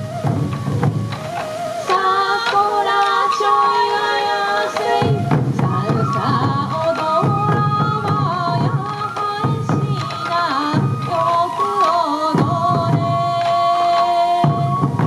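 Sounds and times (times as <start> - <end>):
taiko drums beating: 0.0 - 15.0.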